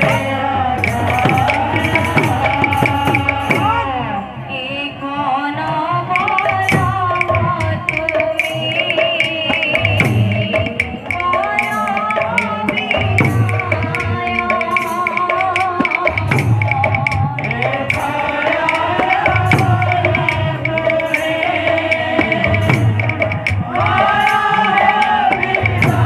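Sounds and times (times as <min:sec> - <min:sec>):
hand drum beats: 0:00.0 - 0:04.2, 0:05.9 - 0:26.0
sharp percussion strikes: 0:00.0 - 0:04.3, 0:06.0 - 0:26.0
person singing: 0:00.0 - 0:26.0.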